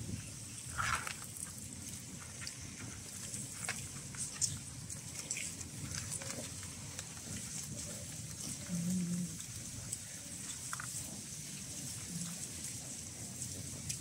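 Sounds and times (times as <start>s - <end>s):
cats crunching food: 0.0s - 14.0s.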